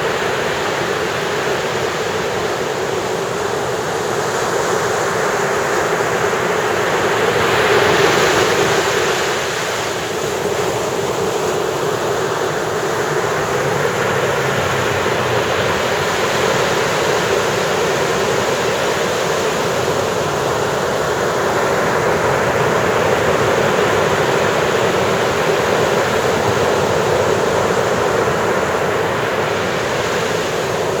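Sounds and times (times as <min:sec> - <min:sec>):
ocean waves breaking on shore: 0:00.0 - 0:31.0.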